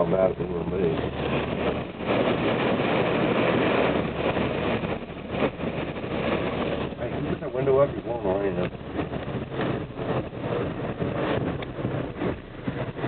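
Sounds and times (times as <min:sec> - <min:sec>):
car engine and road noise: 0:00.0 - 0:13.0
wind rushing through car window: 0:00.0 - 0:13.0.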